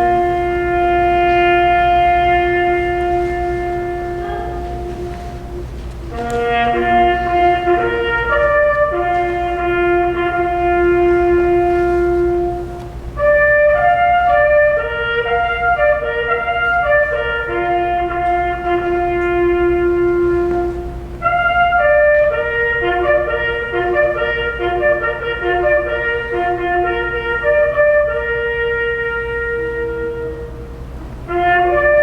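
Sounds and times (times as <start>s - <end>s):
recording hum: 0.0s - 32.0s
slow wind instrument melody: 0.0s - 32.0s.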